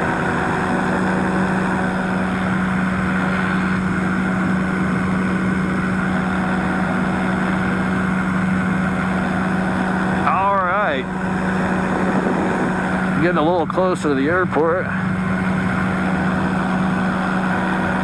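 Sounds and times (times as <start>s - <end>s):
engine and propeller droning: 0.0s - 18.0s.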